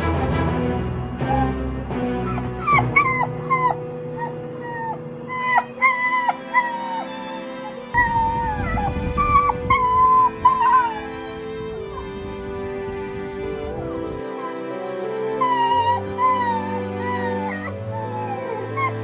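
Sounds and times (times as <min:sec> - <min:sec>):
dog crying and whining: 0:00.0 - 0:12.2, 0:13.7 - 0:14.7, 0:15.4 - 0:19.0
background music: 0:00.0 - 0:19.0.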